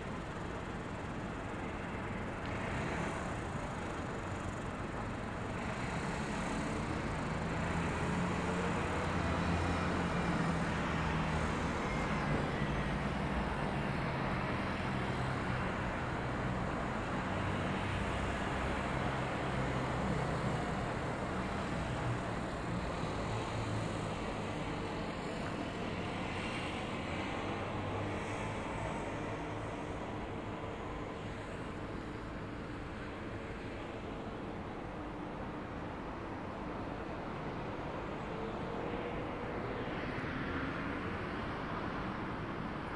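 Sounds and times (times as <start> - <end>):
road traffic hum: 0.0 - 42.9.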